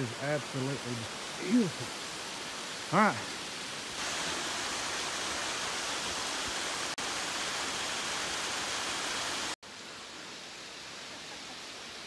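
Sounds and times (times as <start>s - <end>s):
creek flowing over riffles: 0.0s - 12.0s
small waterfall spilling: 0.0s - 12.0s.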